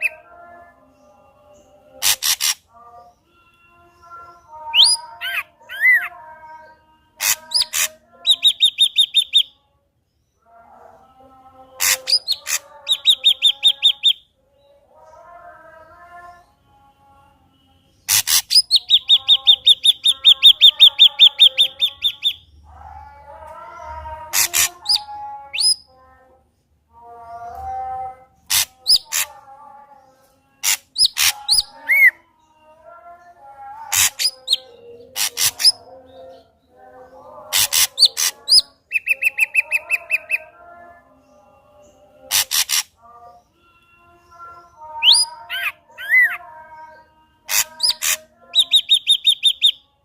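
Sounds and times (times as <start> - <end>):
bird singing: 0.0 - 26.4, 27.0 - 50.0.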